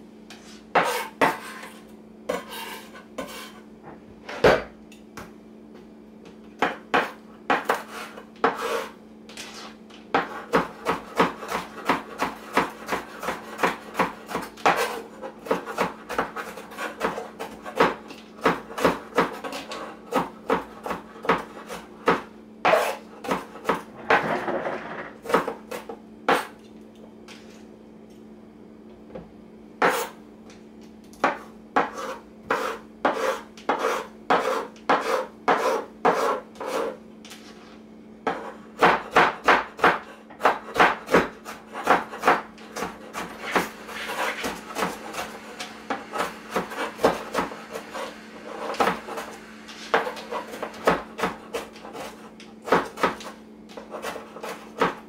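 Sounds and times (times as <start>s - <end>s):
steady low hum: 0.0s - 55.0s
knife chopping peppers: 0.3s - 3.6s, 6.6s - 24.4s, 25.2s - 26.6s, 29.8s - 30.2s, 31.1s - 37.0s, 38.2s - 55.0s.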